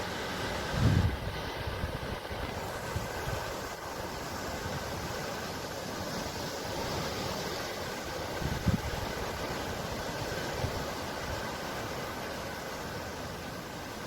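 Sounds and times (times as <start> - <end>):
sea surf washing: 0.0 - 14.0
wind rumble on microphone: 0.0 - 14.0.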